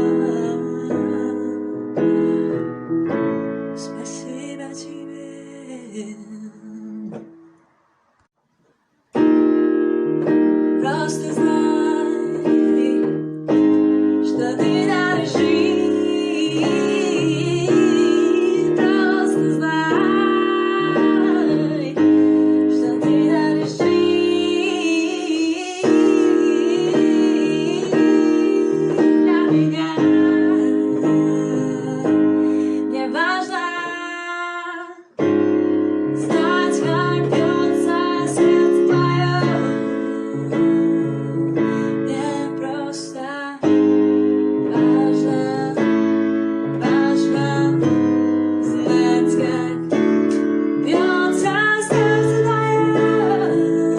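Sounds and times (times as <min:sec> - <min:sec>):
woman singing: 0:00.0 - 0:07.4, 0:10.2 - 0:53.9
electric piano chords: 0:00.0 - 0:07.7, 0:09.1 - 0:53.9.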